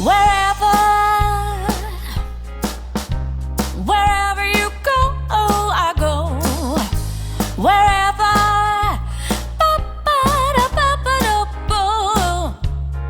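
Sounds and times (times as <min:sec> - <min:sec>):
pop song with singer: 0:00.0 - 0:02.5, 0:03.6 - 0:13.0.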